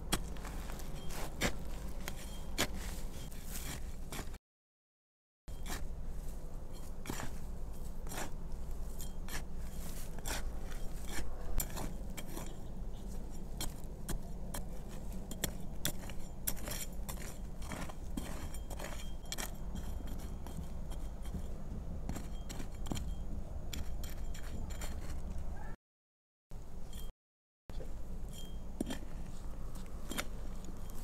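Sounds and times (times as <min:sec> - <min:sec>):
steady low hum: 0:00.0 - 0:04.4, 0:05.5 - 0:25.7, 0:27.7 - 0:31.0.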